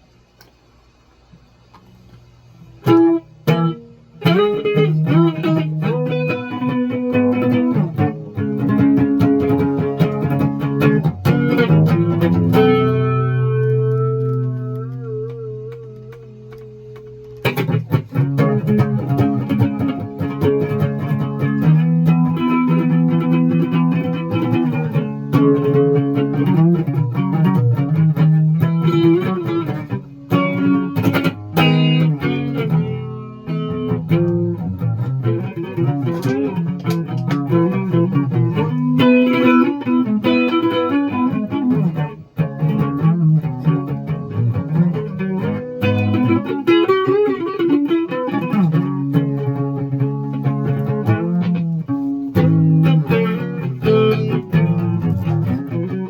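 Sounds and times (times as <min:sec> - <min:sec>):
electric guitar with effects: 0:02.4 - 0:56.0.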